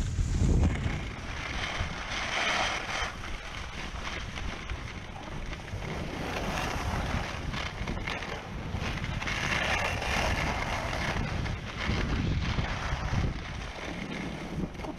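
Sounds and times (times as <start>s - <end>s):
skis sliding on packed snow: 0.0s - 14.9s
wind buffeting microphone: 0.0s - 14.9s.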